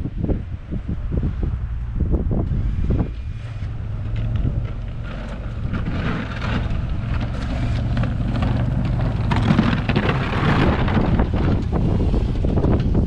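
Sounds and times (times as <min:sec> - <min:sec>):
wind on microphone: 0:00.0 - 0:13.0
vehicle engine running: 0:00.7 - 0:13.0.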